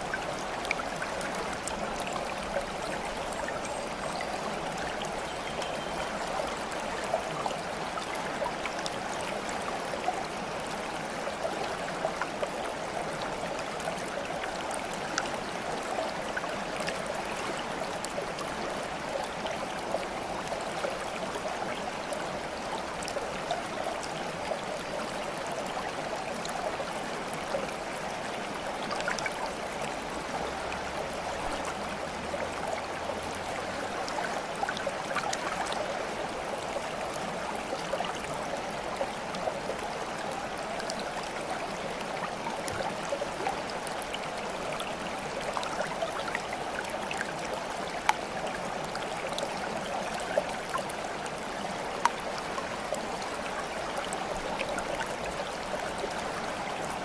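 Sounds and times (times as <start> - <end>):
water drips and splashes: 0.0 - 57.0
water flowing and gurgling: 0.0 - 57.0.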